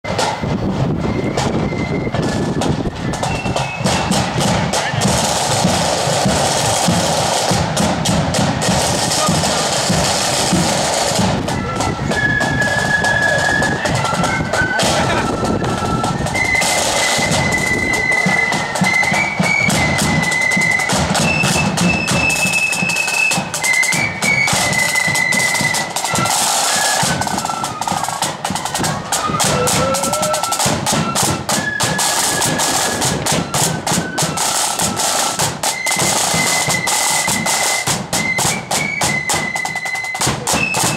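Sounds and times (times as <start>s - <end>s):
flutes playing high melody: 0.1s - 40.9s
side drums rattling: 0.1s - 40.9s.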